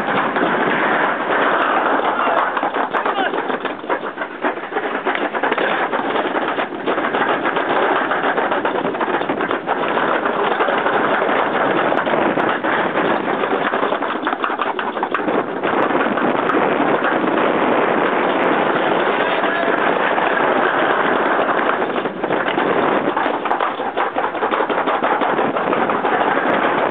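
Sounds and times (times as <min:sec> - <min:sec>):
sled wheels rolling in metal chute: 0:00.0 - 0:17.3, 0:18.2 - 0:26.9.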